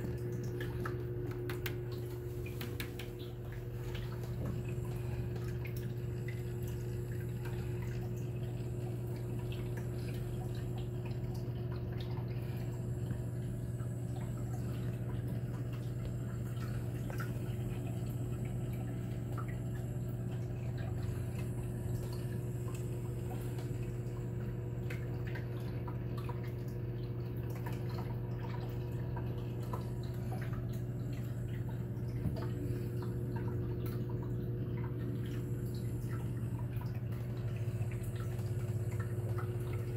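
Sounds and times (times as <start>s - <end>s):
low pump hum: 0.0s - 39.9s
water trickling and dripping: 0.0s - 39.9s.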